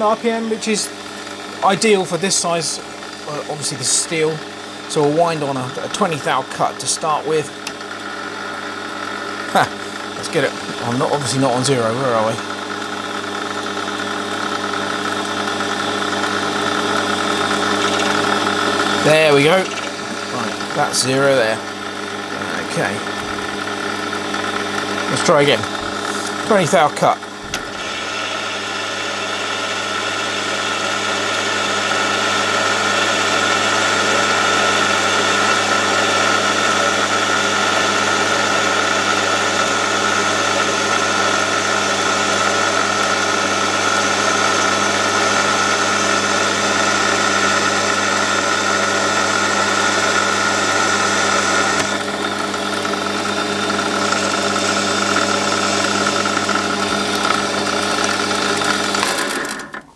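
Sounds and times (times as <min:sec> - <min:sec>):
metal lathe motor whine: 0:00.0 - 0:59.8.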